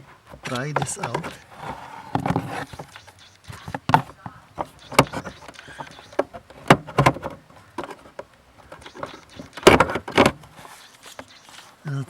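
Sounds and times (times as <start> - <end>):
knocks and clunks of hand work: 0.0 - 11.6.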